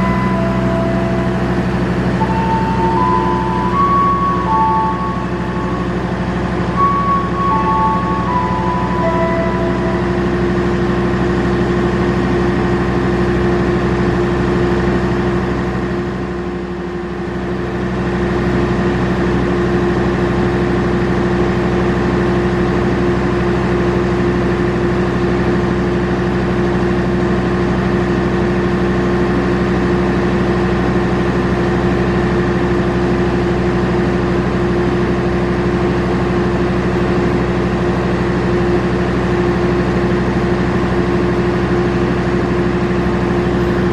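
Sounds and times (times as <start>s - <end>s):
diesel train engine idling: 0.0s - 43.9s.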